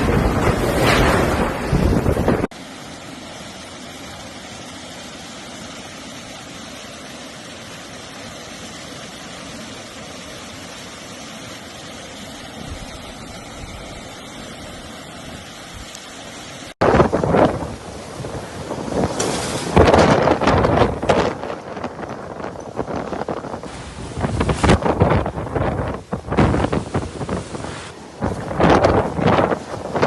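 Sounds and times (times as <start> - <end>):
hurricane wind and rain: 0.0 - 30.0.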